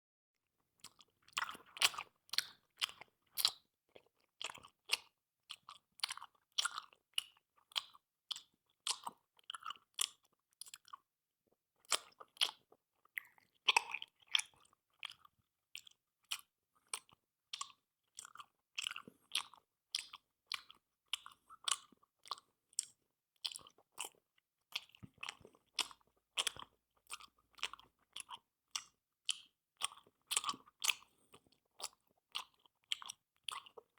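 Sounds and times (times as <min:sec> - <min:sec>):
wet chewing smacks: 0:00.8 - 0:11.0, 0:13.2 - 0:33.9.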